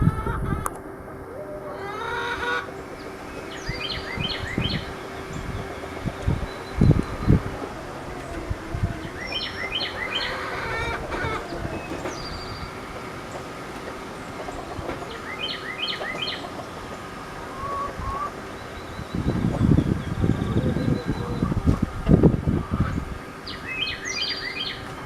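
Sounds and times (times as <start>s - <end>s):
faint hum: 0.0s - 25.0s
songbird chirping: 1.3s - 21.6s, 22.8s - 25.0s.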